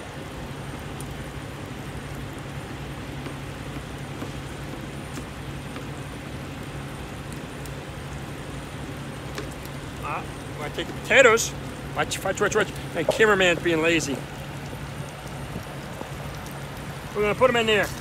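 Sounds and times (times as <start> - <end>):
diesel trucks idling: 0.0 - 18.0.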